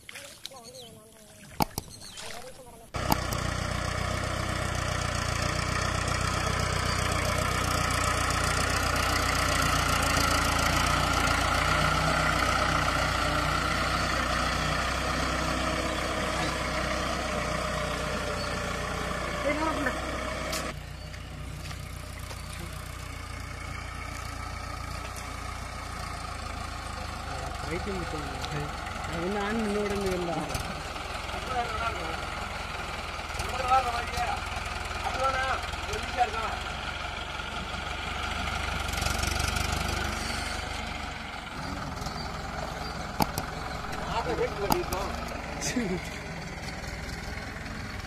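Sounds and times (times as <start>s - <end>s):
tractor diesel engine idling: 2.6s - 48.0s.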